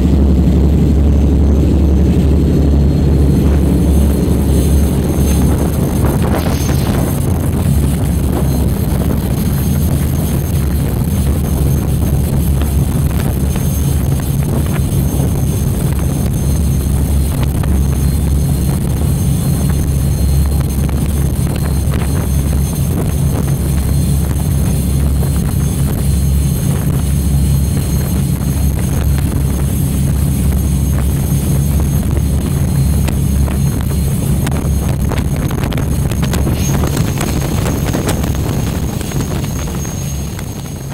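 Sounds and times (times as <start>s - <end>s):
boat engines droning: 0.0s - 40.9s.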